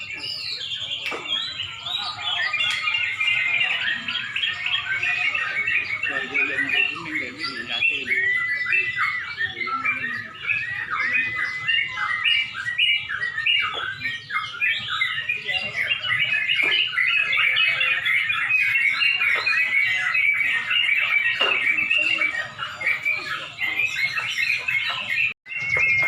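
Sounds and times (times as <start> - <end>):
birds singing chattering phrases: 0.0 - 26.0.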